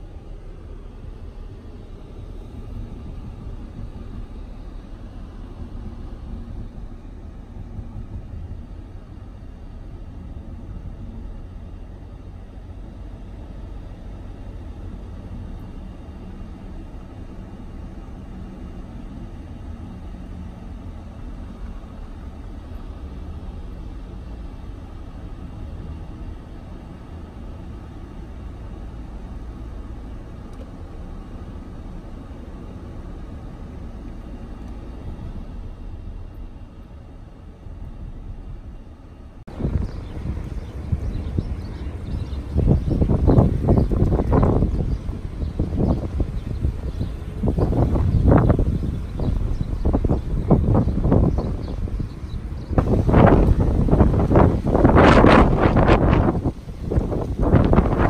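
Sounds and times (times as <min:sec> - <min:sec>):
car driving on road: 0:00.0 - 0:58.0.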